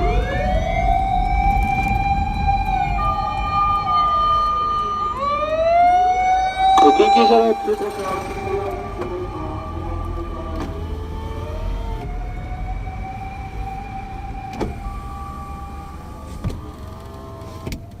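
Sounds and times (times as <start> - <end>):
emergency vehicle siren wailing: 0.0 - 18.0
low rumble of vehicle engines: 0.0 - 18.0.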